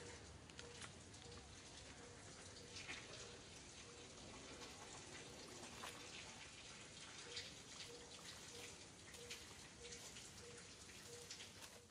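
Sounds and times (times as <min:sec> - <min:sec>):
soft ticks and crackles: 0:00.0 - 0:11.9.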